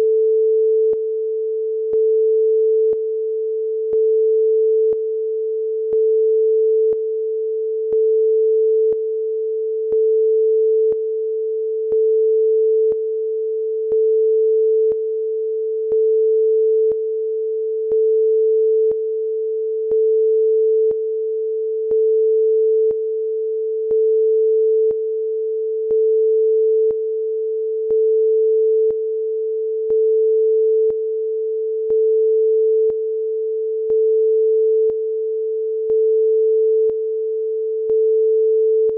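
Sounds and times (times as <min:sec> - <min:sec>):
steady sine-wave test tone: 0:00.0 - 0:38.9.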